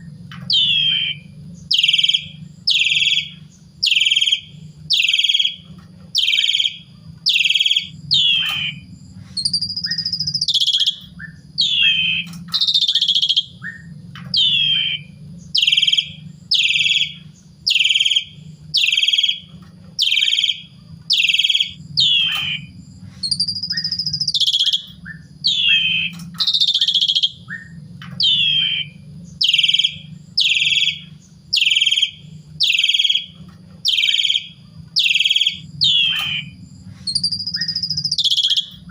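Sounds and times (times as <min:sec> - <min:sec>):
low hum: 0:00.0 - 0:38.9
starling singing harsh notes: 0:00.0 - 0:38.9.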